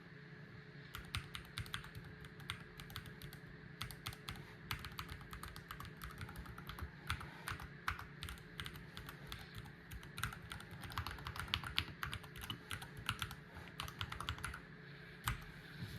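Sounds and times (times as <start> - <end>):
keyboard typing: 0.9 - 14.6.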